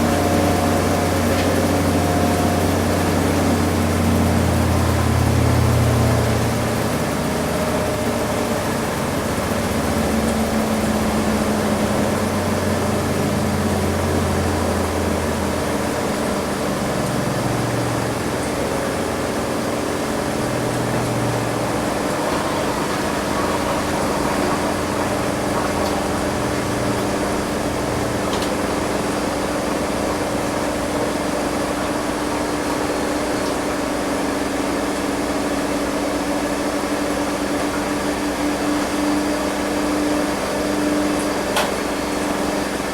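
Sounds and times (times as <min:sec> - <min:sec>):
washing machine drum rumble: 0:00.0 - 0:34.6
washing machine motor whine: 0:00.0 - 0:42.9.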